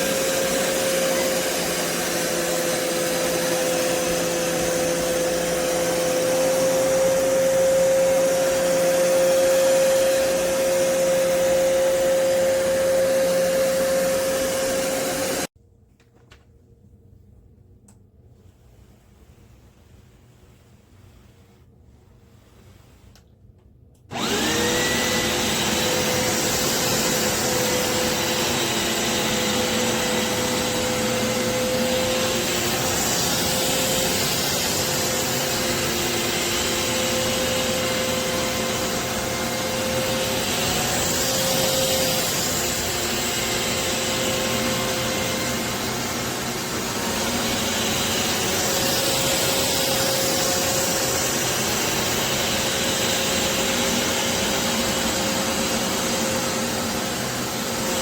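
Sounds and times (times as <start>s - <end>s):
carpet cleaner motor whine: 0.0s - 15.5s, 24.1s - 58.0s.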